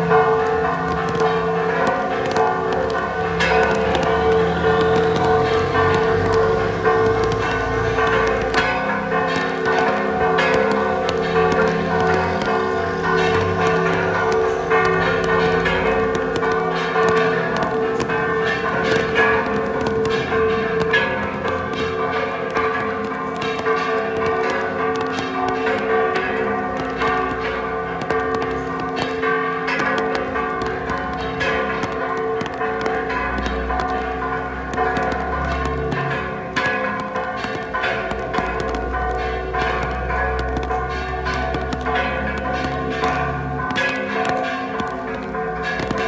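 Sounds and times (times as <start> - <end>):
church bells ringing rapidly: 0.0 - 46.0.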